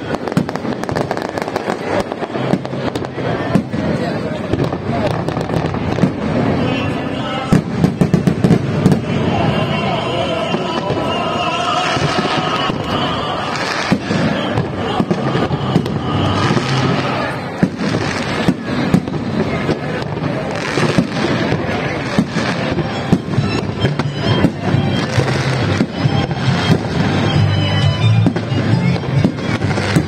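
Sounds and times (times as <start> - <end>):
fireworks bangs and crackling: 0.0 - 30.0
fireworks whistles: 0.0 - 30.0.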